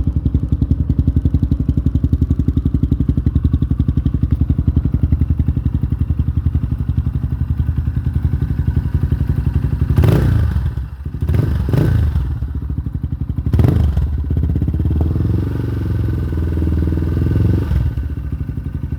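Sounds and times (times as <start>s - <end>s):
motorcycle engine idling and revving: 0.0s - 18.9s.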